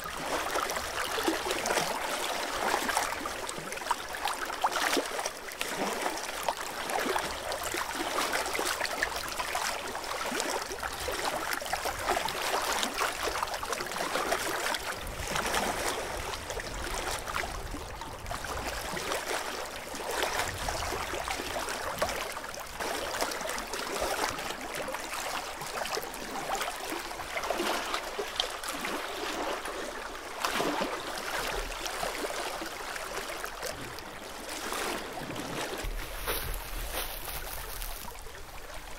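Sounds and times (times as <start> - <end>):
water lapping on stony shore: 0.0 - 38.9.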